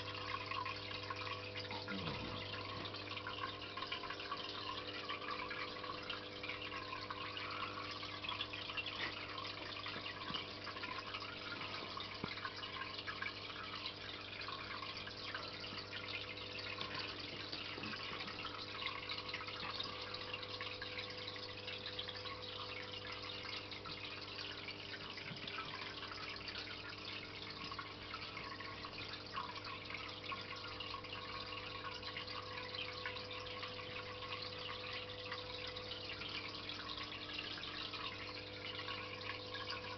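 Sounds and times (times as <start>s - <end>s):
aquarium filter hum: 0.0s - 39.9s
water trickling and splashing: 0.0s - 39.9s.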